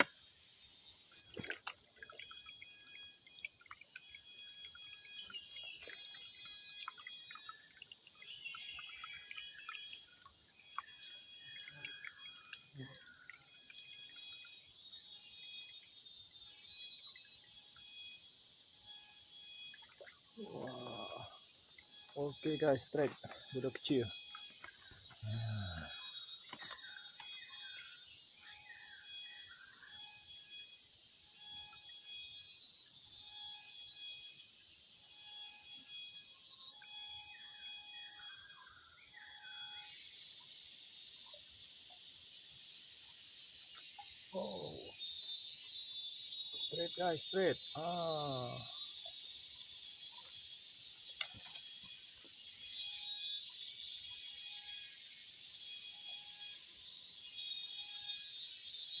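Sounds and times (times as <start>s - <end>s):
forest insects chorus: 0.0s - 59.0s.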